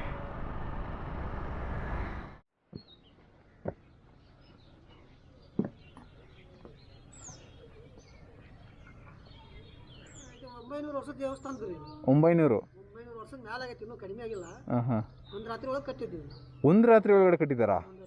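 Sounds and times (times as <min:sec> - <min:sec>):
birds chirping: 0:02.7 - 0:18.0.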